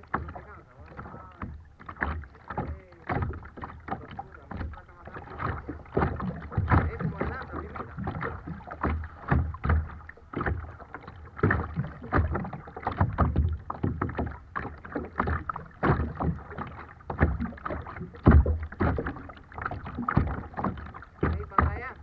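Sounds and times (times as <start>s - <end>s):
water splashing against kayak: 0.0s - 22.0s.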